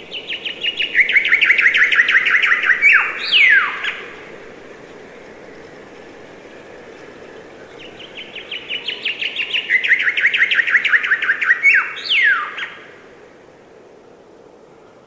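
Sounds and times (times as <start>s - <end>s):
songbird singing: 0.0s - 15.0s
steady background hiss: 0.0s - 15.0s.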